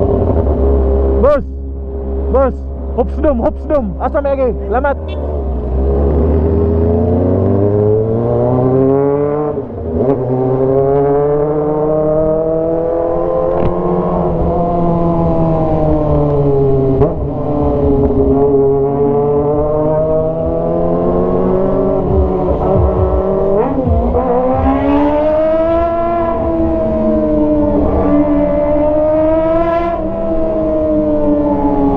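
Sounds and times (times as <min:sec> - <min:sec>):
motorcycle engine revving: 0:04.0 - 0:31.9.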